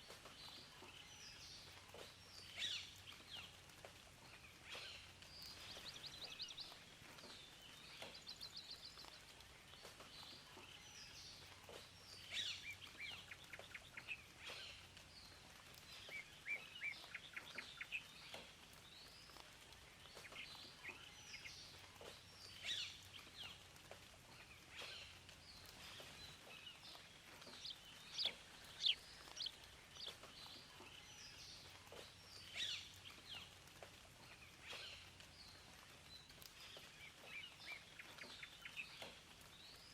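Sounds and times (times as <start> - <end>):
faint steady hiss: 0.0 - 39.9
songbirds chirping and singing: 0.0 - 39.9.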